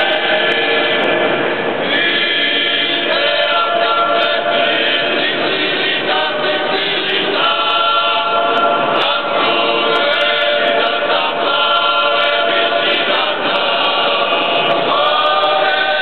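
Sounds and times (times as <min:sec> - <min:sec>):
unaccompanied choir chanting: 0:00.0 - 0:16.0.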